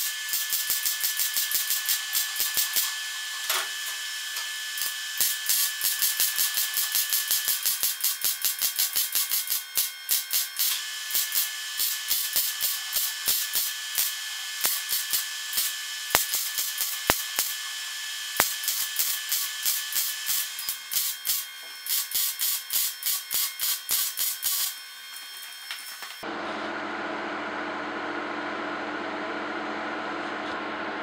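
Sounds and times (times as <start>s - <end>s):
welder crackling: 0.0s - 26.2s.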